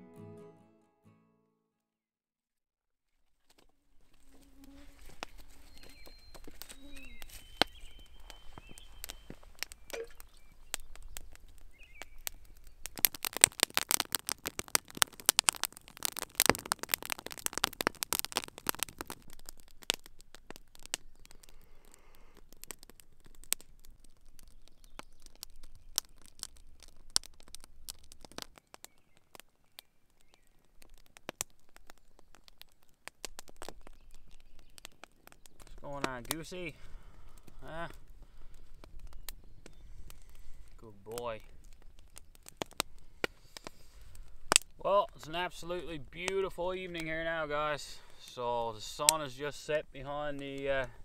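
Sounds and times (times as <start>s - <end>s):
campfire crackling and popping: 3.5s - 51.0s.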